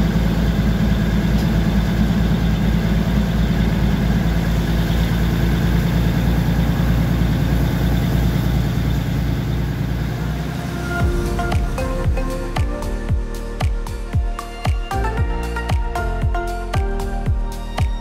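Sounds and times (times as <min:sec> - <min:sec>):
diesel train engine running: 0:00.0 - 0:18.0.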